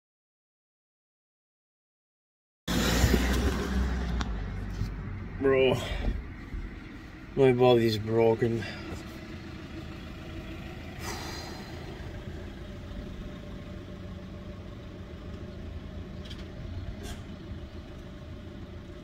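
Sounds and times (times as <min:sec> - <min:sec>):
vehicle engine drone: 0:02.7 - 0:19.0.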